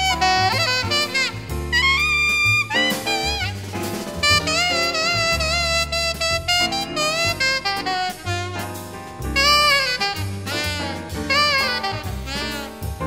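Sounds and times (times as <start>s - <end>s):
alto saxophone: 0.0s - 13.0s
bass line: 0.0s - 13.0s
drums: 0.0s - 13.0s.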